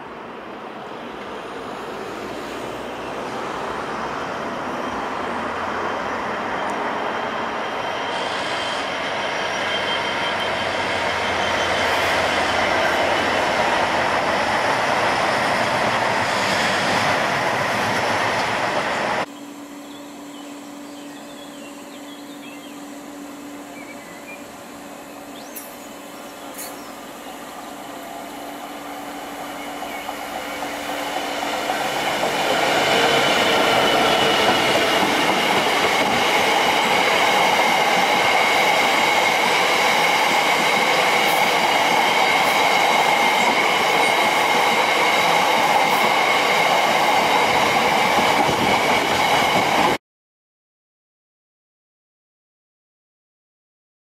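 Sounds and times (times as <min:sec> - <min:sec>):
diesel locomotive passing: 0:00.0 - 0:50.0.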